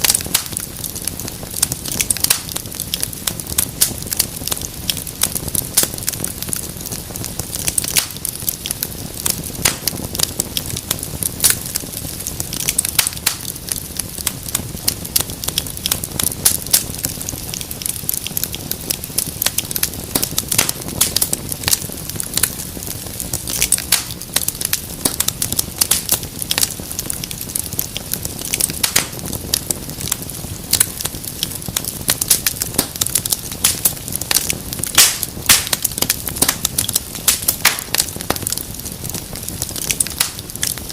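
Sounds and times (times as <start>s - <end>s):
low rumble of flames: 0.0s - 40.9s
sharp pops and snaps: 0.0s - 40.9s
wood fire crackling: 0.0s - 40.9s.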